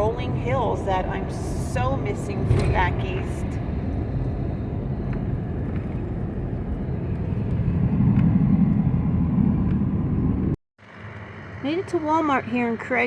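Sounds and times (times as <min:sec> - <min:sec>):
vehicle road and engine rumble: 0:00.0 - 0:13.0.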